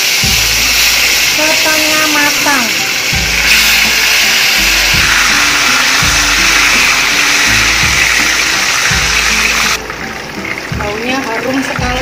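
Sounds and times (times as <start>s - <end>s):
background music: 0.0s - 12.0s
liver sizzling in frying pan: 0.0s - 12.0s.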